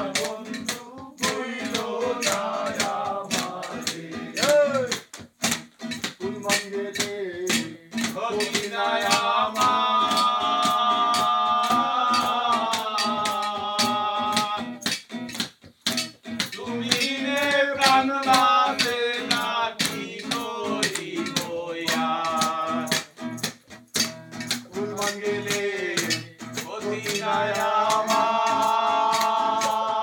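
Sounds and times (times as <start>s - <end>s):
men singing: 0.0s - 5.1s, 5.9s - 15.0s, 16.4s - 23.2s, 24.4s - 30.0s
acoustic guitar: 0.0s - 30.0s.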